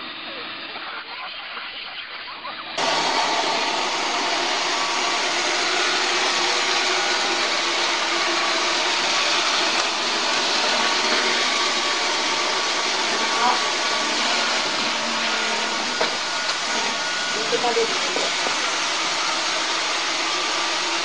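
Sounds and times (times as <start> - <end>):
robot vacuum whirring: 2.8 - 21.0.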